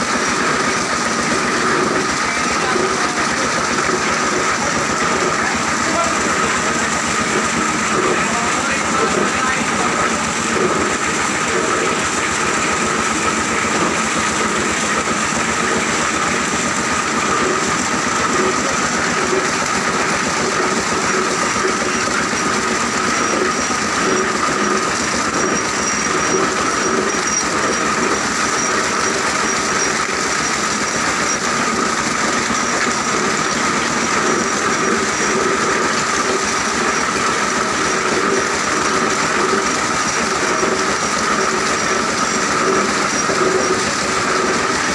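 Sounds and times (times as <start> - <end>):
plastic shredder machinery running: 0.0 - 44.9
steady machine tone: 0.0 - 44.9.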